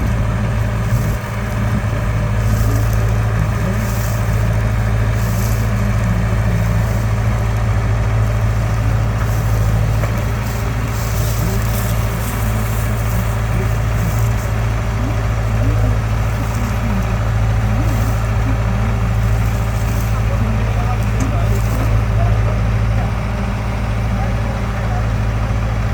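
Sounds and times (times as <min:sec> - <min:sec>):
diesel engine running steadily: 0:00.0 - 0:25.9.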